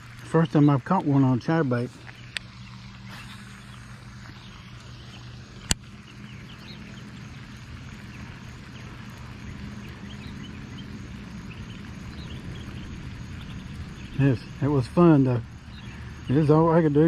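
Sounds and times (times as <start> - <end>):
faint chirps: 0.0 - 17.0
steady low hum: 0.0 - 17.0.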